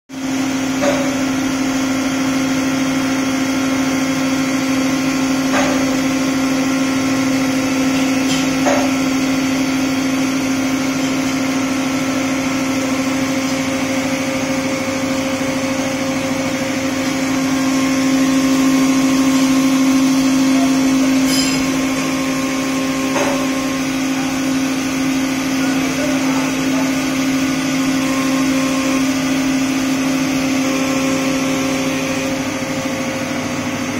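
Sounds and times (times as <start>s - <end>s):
machining hum: 0.1s - 33.9s.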